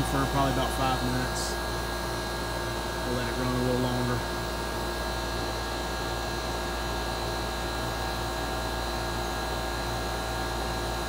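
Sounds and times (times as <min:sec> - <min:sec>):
air conditioner condenser humming: 0:00.0 - 0:11.0.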